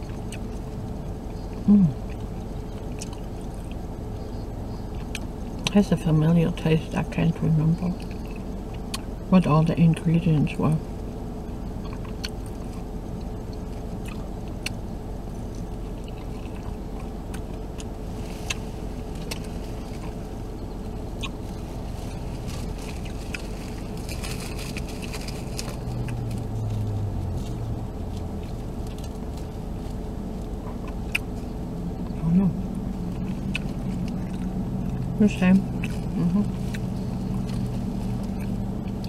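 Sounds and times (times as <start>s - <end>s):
clicks and rustles of eating: 0.0s - 3.9s, 4.8s - 5.8s, 7.8s - 9.1s, 11.8s - 32.2s, 32.9s - 39.0s
car cabin hum: 0.0s - 39.0s
low murmur: 0.0s - 39.0s.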